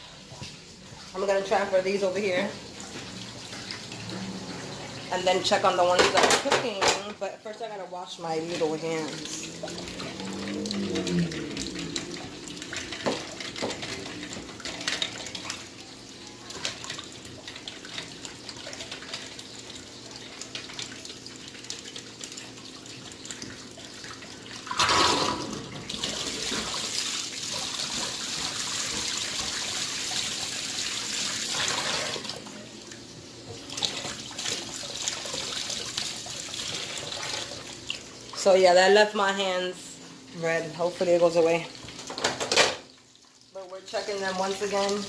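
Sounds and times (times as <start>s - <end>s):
hands washed under running tap: 0.0s - 39.6s, 40.4s - 45.0s.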